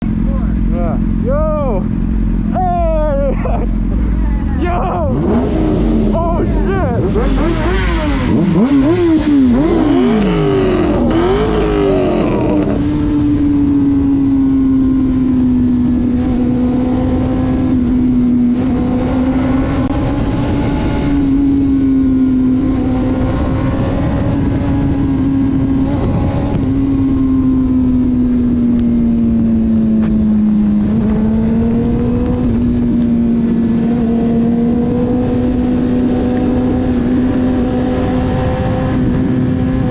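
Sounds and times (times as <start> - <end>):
vehicle engine revving and cruising: 0.0 - 39.9.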